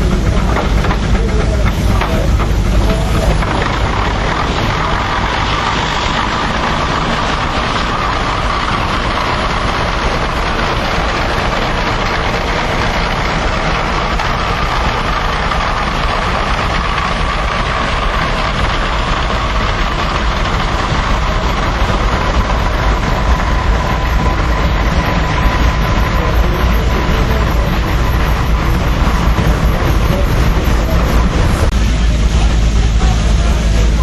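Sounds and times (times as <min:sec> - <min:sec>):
high mechanical buzz: 0:00.0 - 0:34.0
low mechanical rumble: 0:00.0 - 0:34.0.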